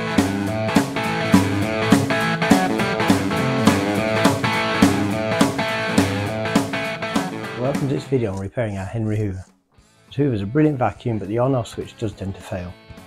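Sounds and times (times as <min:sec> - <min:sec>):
guitar-led music with steady beat: 0:00.0 - 0:08.4, 0:09.7 - 0:13.0.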